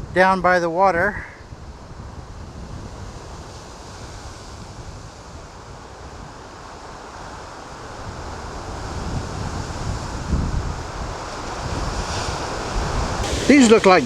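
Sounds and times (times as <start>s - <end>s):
wind buffeting microphone: 0.0s - 14.0s
waves washing against shore: 1.4s - 14.0s.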